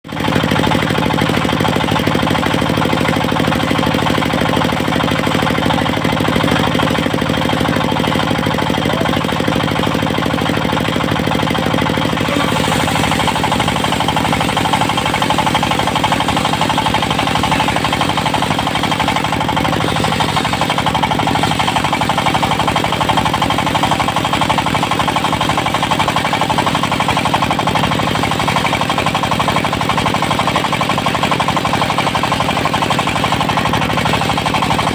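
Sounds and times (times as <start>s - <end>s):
portable sawmill engine knocking: 0.0s - 34.9s.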